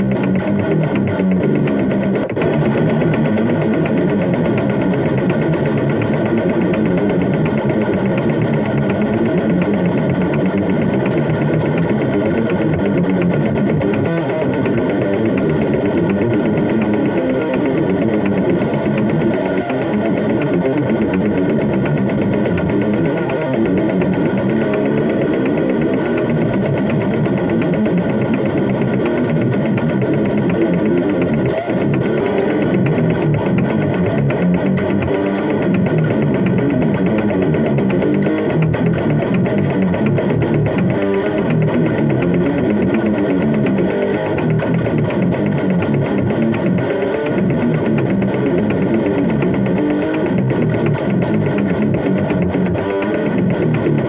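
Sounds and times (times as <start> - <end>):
distorted electric guitar riff: 0.0 - 54.0.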